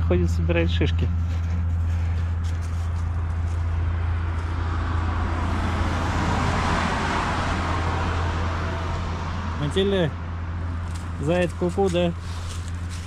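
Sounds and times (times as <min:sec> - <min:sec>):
steady low rumble: 0:00.0 - 0:13.0
car passing: 0:01.6 - 0:13.0.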